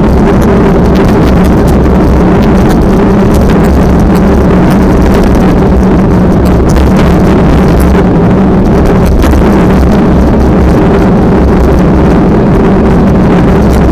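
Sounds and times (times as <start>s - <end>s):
low hum: 0.0s - 13.9s
wind buffeting microphone: 0.0s - 13.9s.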